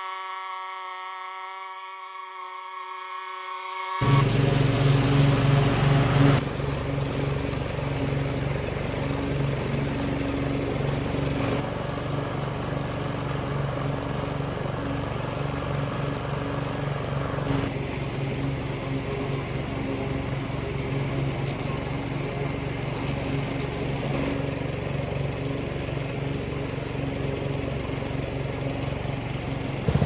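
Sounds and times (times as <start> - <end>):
riding mower engine running: 4.0 - 30.0.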